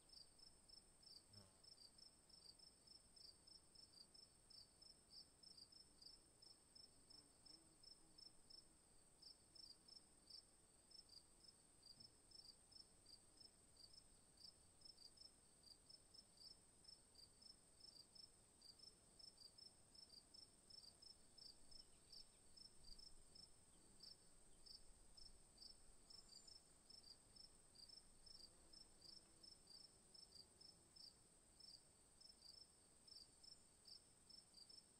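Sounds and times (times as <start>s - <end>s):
cricket chirping: 0.0s - 34.9s.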